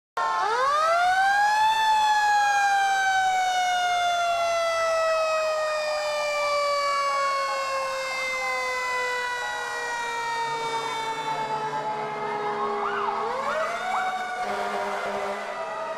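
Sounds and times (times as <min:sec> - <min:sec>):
fire engine siren winding: 0:00.2 - 0:15.9.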